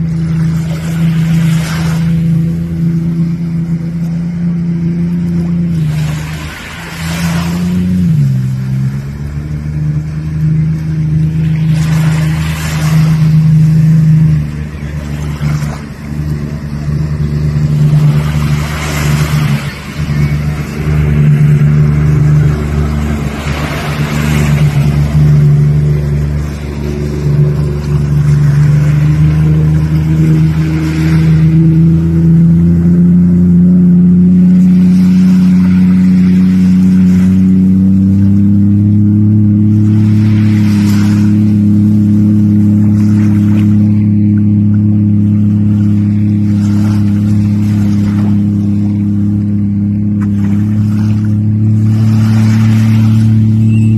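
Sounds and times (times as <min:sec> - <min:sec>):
water spray rushing: 0:00.0 - 0:33.4, 0:34.2 - 0:53.9
jet ski engine droning: 0:00.0 - 0:53.9.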